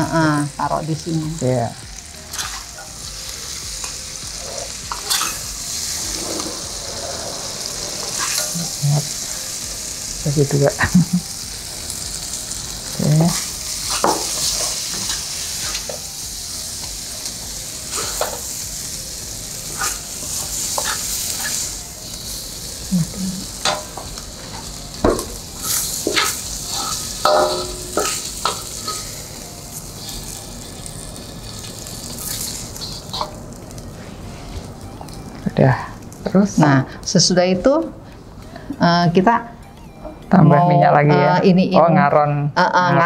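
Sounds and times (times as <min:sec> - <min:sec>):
food sizzling in frying pan: 0:00.0 - 0:39.3.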